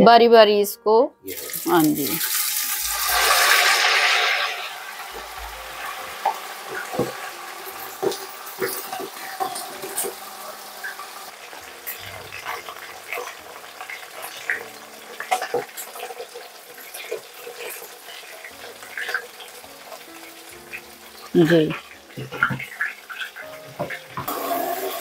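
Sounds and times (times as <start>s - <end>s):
chicken sizzling in butter: 1.2s - 25.0s.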